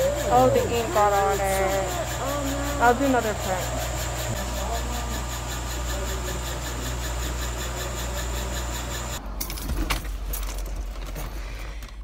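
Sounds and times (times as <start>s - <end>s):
mechanical hum with high whine: 0.0s - 12.0s.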